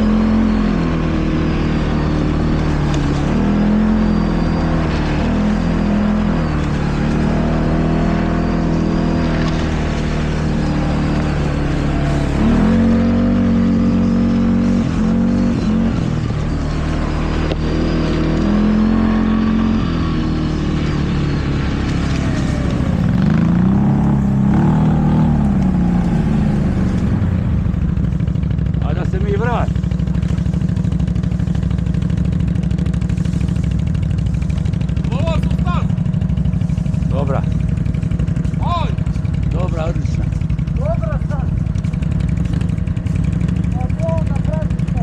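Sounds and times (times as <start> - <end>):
atv engine revving: 0.0 - 45.0.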